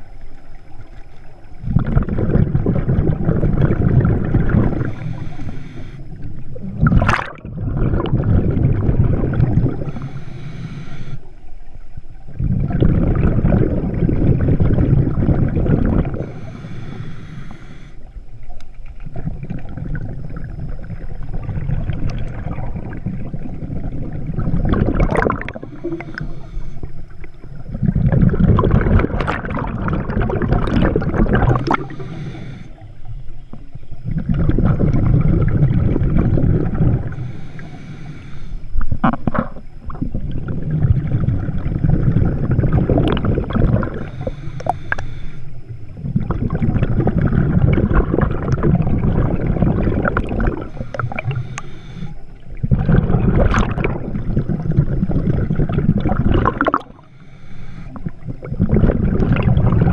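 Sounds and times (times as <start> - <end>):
underwater bubbles gurgling: 0.0 - 59.9.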